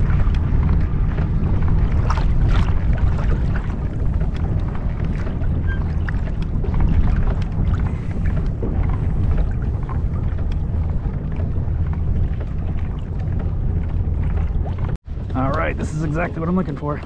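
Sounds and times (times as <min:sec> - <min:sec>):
water lapping against kayak hull: 0:00.0 - 0:17.0
wind rumbling on microphone: 0:00.0 - 0:17.0.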